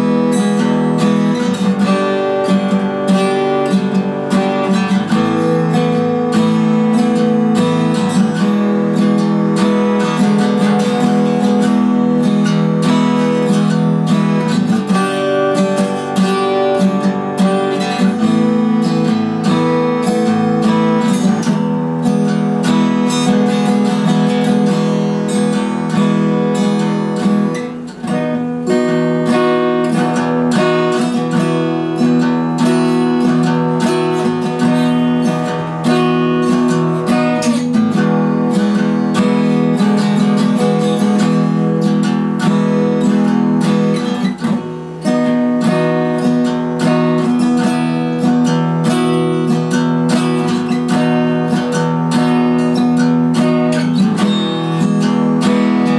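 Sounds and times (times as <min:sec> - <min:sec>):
acoustic guitar strumming chords: 0:00.0 - 0:55.9.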